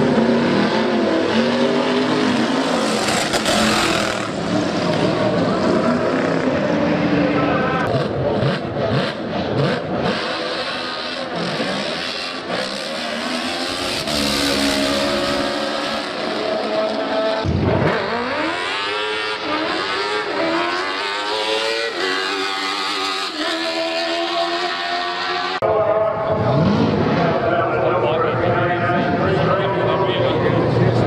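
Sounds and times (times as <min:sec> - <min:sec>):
kart engine revving high: 0:00.0 - 0:31.0.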